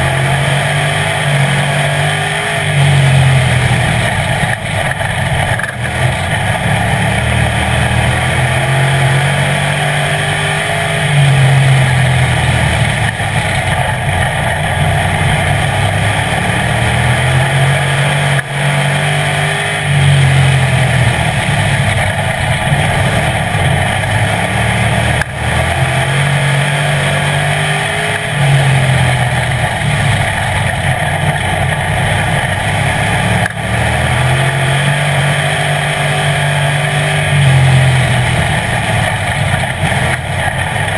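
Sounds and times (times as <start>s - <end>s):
race car engine: 0.0s - 40.9s.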